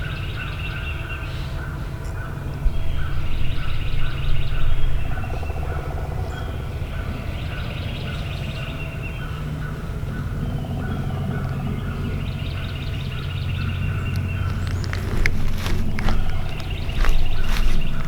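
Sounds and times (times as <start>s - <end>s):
other birds calling: 2.7s - 18.0s.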